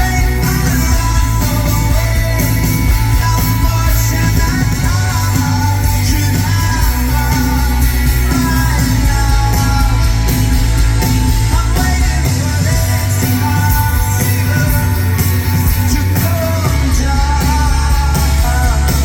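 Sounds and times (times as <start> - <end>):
lead singer: 0.0 - 19.0
live rock band: 0.0 - 19.0.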